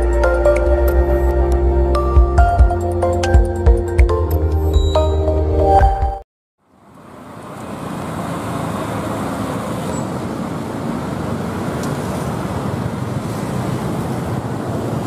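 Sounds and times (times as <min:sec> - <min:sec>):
road traffic noise: 0:00.0 - 0:05.7, 0:06.6 - 0:15.0.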